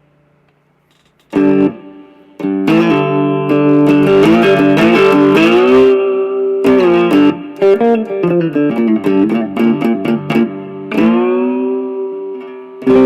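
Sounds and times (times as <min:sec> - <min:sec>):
amplified guitar playing: 0:01.3 - 0:13.0.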